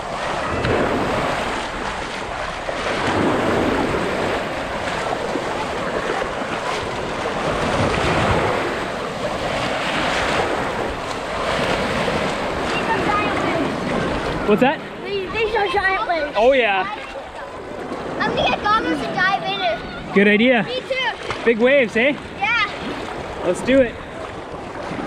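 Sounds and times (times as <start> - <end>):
wind buffeting microphone: 0.0 - 21.4
ocean waves breaking: 0.0 - 25.0.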